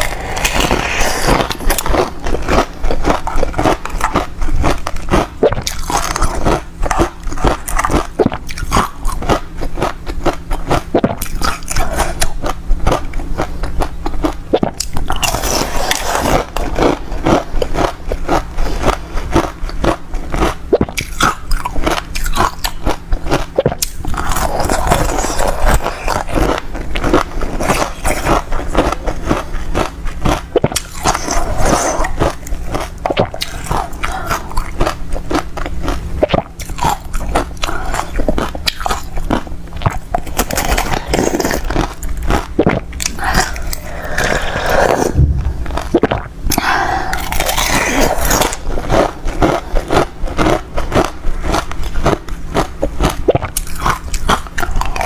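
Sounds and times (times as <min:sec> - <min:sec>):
person chewing crunchy ice: 0:00.0 - 0:55.0.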